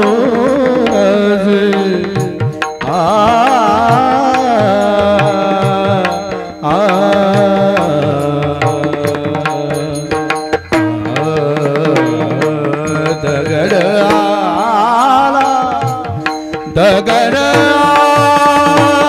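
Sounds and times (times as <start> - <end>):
devotional song melody: 0.0 - 19.0.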